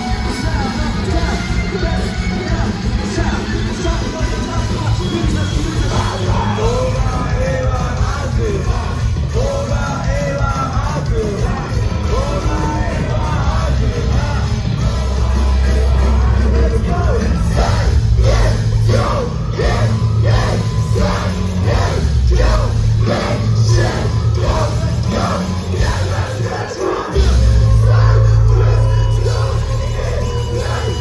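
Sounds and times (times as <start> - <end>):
live rock band playing: 0.0 - 31.0
vocalist singing: 0.0 - 31.0.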